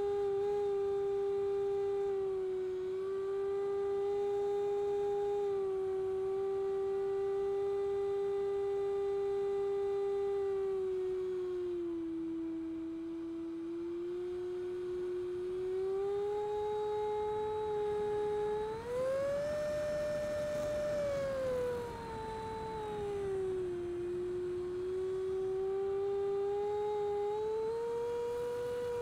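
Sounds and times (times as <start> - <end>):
electric ducted fan jet whining: 0.0 - 29.0.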